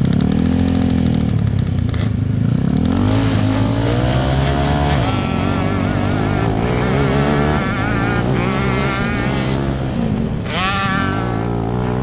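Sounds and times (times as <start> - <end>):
kart engines revving: 0.0 - 12.0.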